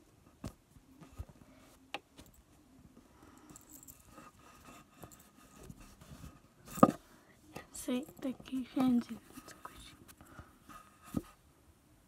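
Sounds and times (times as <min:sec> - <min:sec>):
quiet rustling: 0:00.0 - 0:11.5.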